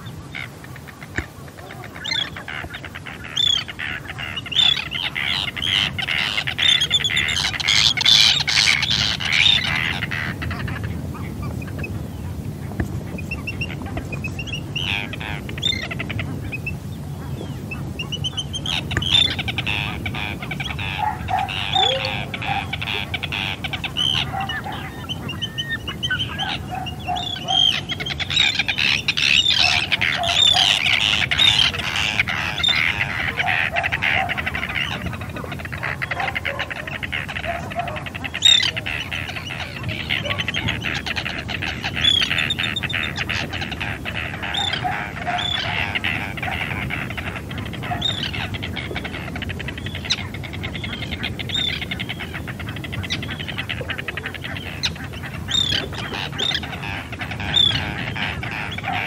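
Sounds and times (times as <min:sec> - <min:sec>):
terns calling: 0:00.0 - 0:59.0.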